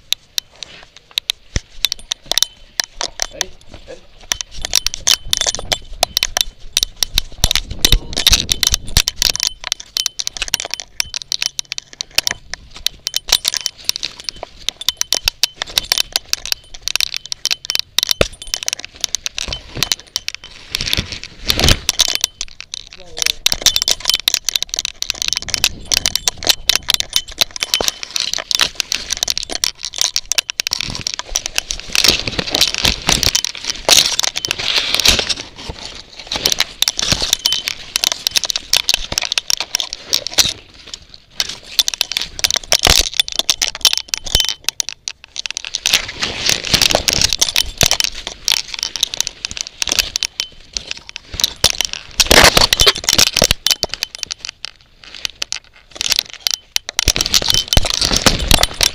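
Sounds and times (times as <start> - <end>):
leaves and twigs rustling: 0.0 - 58.9.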